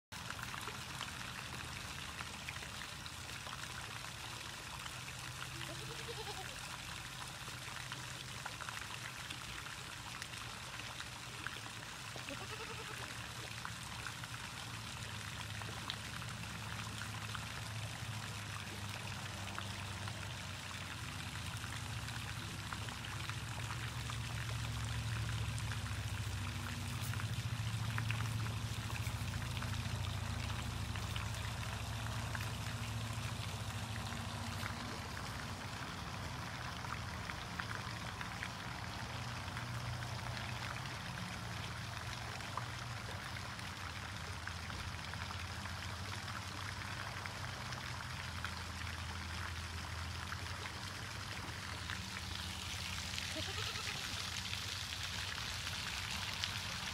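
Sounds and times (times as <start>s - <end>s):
running water: 0.1s - 56.9s.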